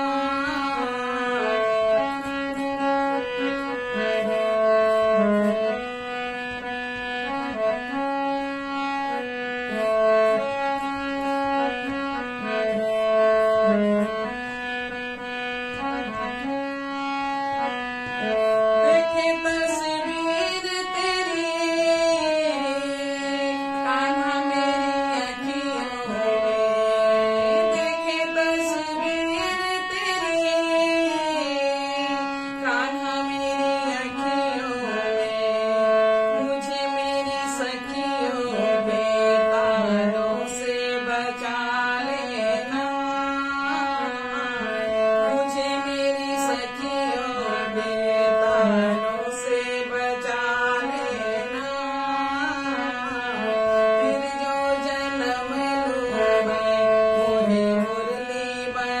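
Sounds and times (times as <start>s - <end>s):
harmonium playing: 0.0s - 59.0s.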